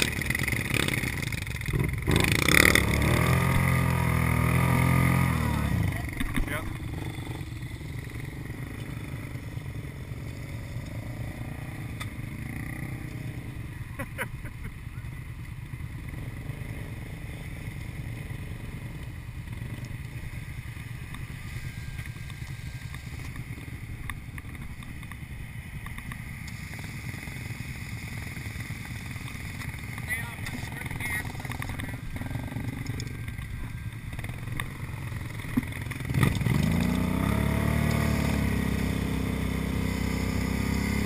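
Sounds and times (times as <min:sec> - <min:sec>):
atv engines running: 0:00.0 - 0:41.0.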